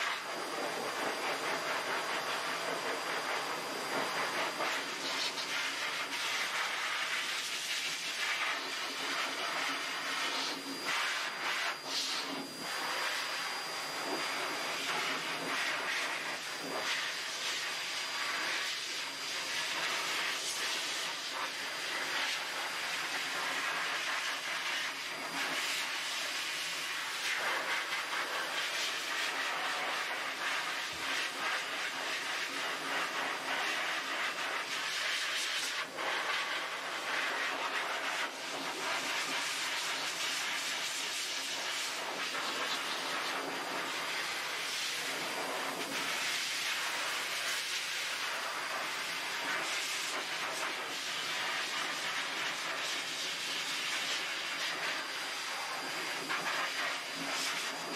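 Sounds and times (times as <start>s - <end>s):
pet dryer blowing air: 0.0s - 57.9s.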